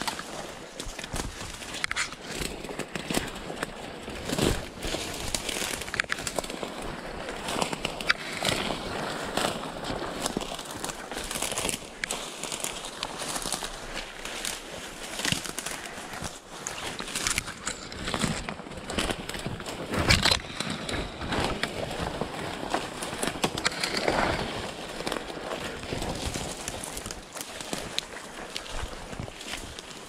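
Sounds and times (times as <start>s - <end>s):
footsteps through wet leaves: 0.0s - 30.0s
twigs rustling against clothing: 0.0s - 30.0s.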